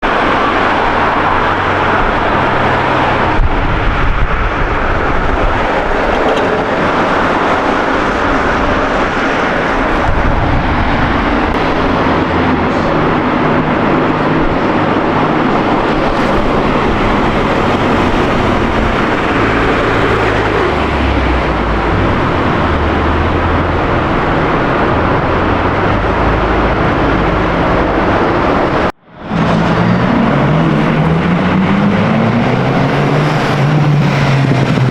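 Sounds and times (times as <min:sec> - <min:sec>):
car engines running: 0:00.0 - 0:34.9.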